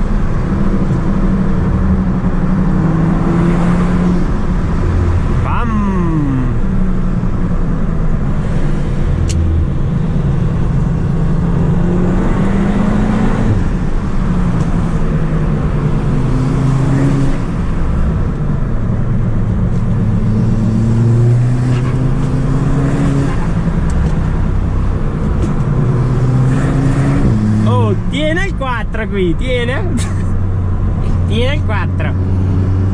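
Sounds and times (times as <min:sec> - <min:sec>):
car engine accelerating: 0:00.0 - 0:32.9.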